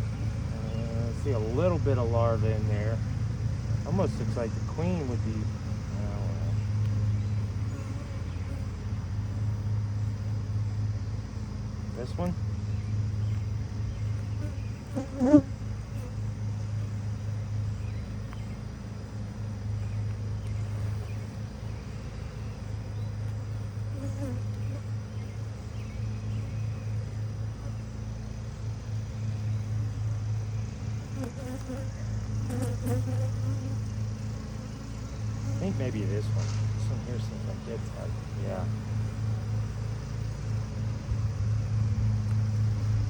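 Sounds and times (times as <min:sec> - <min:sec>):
bees buzzing: 0:00.0 - 0:41.8.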